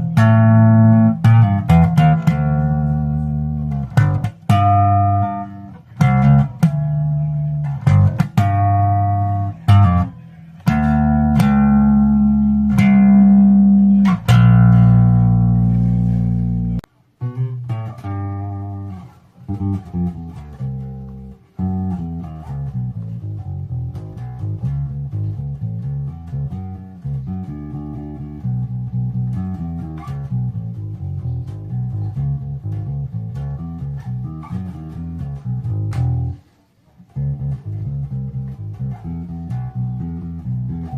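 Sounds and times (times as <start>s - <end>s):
electric bass guitar notes: 0.0s - 36.4s, 37.0s - 40.9s.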